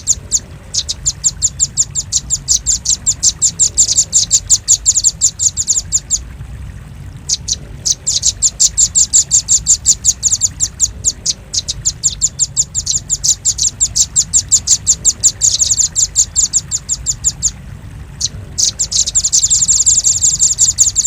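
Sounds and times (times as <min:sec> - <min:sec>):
bird calling with sharp chips: 0:00.0 - 0:06.2, 0:07.3 - 0:17.6, 0:18.2 - 0:21.0.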